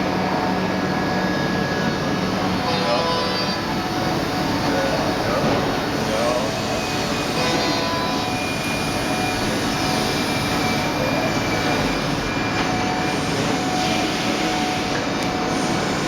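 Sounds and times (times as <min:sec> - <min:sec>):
high steady whine: 0:00.0 - 0:16.0
milling machine running: 0:00.0 - 0:16.0.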